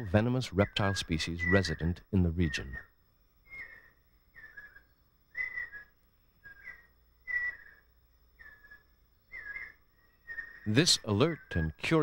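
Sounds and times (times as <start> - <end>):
faint steady high tone: 0.0 - 12.0
animal whistled call: 0.8 - 2.8, 3.5 - 7.8, 8.4 - 11.8.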